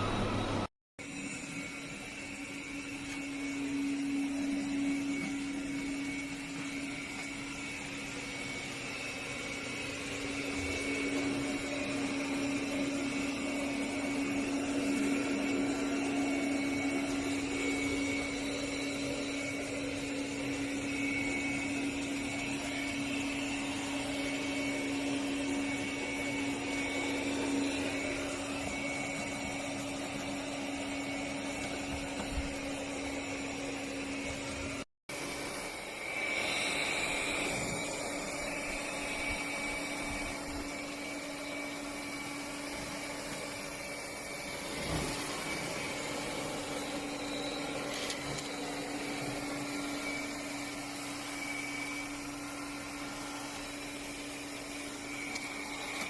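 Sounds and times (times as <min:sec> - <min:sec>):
robot vacuum suction motor humming: 0:00.0 - 0:56.0.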